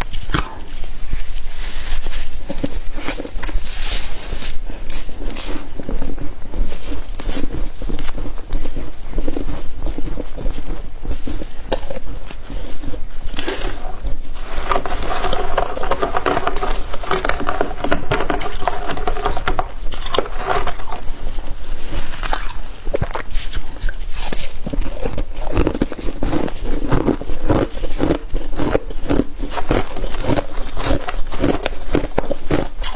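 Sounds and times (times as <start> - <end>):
crunching and chewing frost: 0.0 - 32.9.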